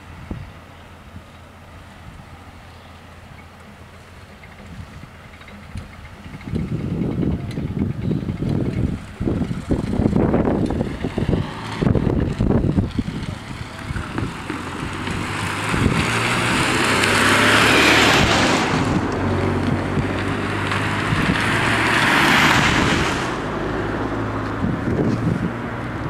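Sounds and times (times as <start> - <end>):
vehicle tyre noise passing: 0.0 - 26.0.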